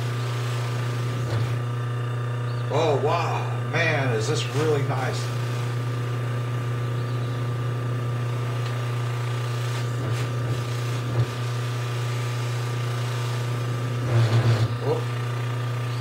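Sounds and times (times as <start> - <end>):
buffer motor humming: 0.0 - 16.0.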